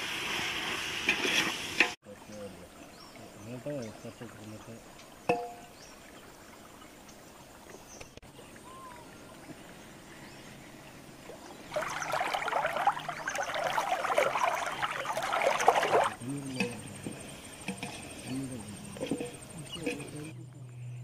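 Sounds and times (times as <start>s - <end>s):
river water trickling and lapping: 0.0s - 20.3s.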